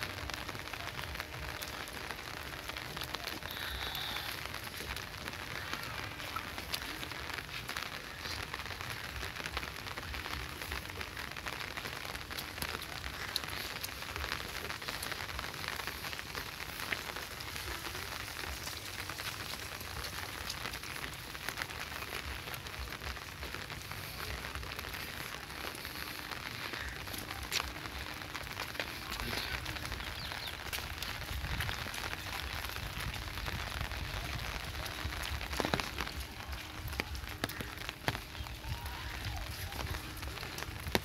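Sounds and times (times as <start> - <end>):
rain on wet paving: 0.0 - 41.0.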